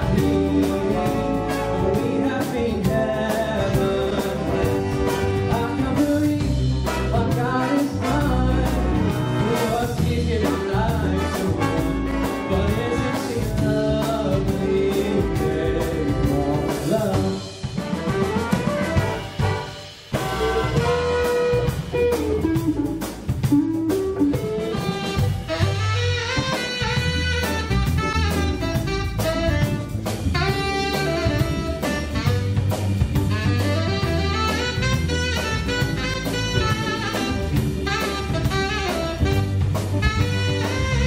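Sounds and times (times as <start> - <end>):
big band playing jazz: 0.0 - 41.0.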